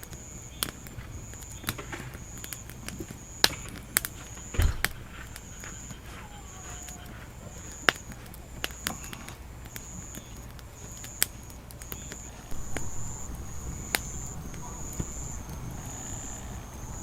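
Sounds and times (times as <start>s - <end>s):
grass insect trilling: 0.0s - 17.0s.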